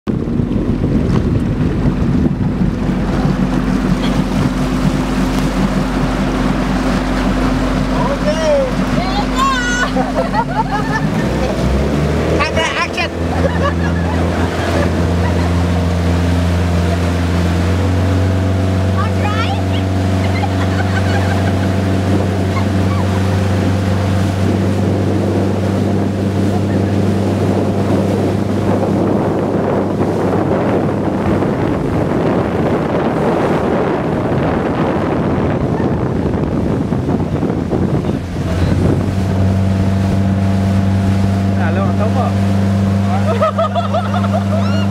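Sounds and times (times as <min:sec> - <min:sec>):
motorboat engine humming: 0:00.0 - 0:44.9
water rushing from wake: 0:00.0 - 0:44.9
wind buffeting microphone: 0:00.1 - 0:44.9.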